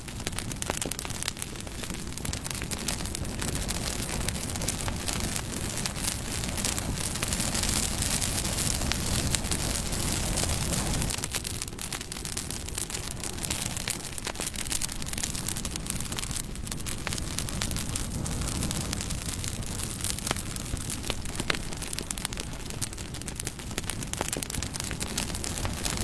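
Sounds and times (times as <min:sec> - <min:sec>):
bonfire flames roaring: 0:00.0 - 0:26.0
burning wood crackling and popping: 0:00.0 - 0:26.0.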